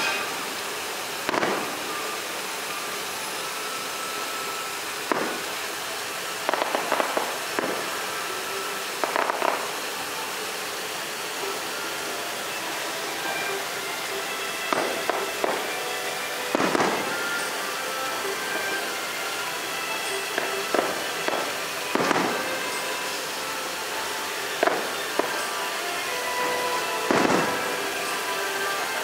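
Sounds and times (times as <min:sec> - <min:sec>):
fireworks shells bursting: 0:00.0 - 0:29.0
steady background hiss: 0:00.0 - 0:29.0.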